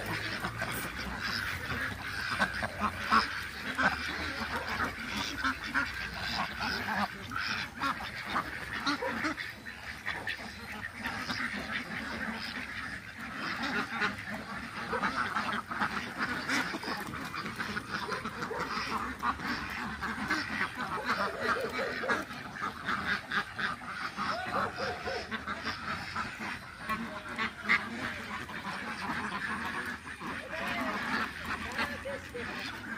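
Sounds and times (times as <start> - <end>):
ducks quacking: 0.0 - 32.9.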